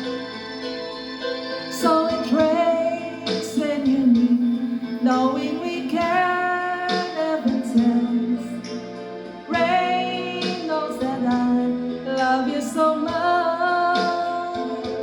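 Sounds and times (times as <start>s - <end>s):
instrumental accompaniment: 0.0s - 15.0s
woman singing: 1.7s - 15.0s.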